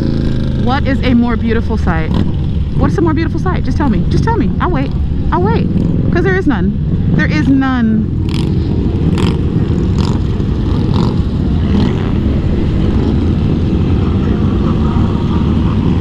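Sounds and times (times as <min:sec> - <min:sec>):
motorcycle engine: 0:00.0 - 0:16.0
road noise: 0:00.0 - 0:16.0
wind rush: 0:00.0 - 0:16.0.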